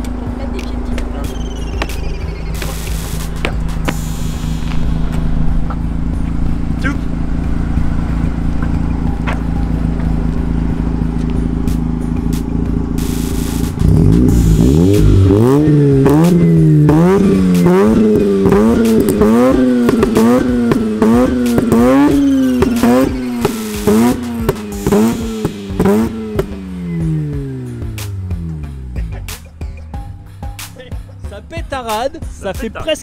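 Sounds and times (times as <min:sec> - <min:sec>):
rotary engine idling: 0:00.0 - 0:29.0
engine revving in quick blips: 0:01.2 - 0:29.4.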